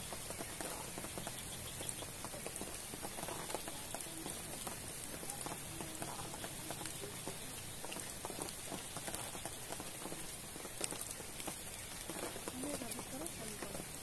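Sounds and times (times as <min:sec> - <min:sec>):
rain falling on pond: 0:00.0 - 0:14.0.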